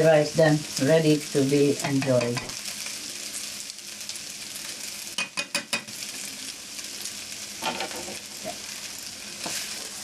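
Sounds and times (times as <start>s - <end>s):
fried rice sizzling in pan: 0.0s - 10.0s.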